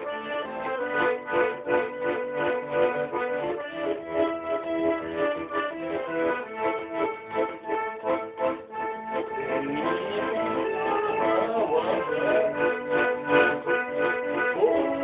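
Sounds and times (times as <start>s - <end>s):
button accordion playing a tune: 0.0s - 15.0s.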